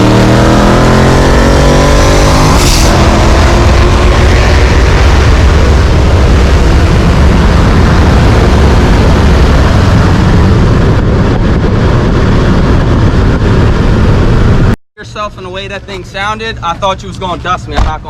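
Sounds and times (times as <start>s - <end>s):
car engines at full throttle: 0.0s - 18.0s
heavy wind noise: 0.0s - 18.0s.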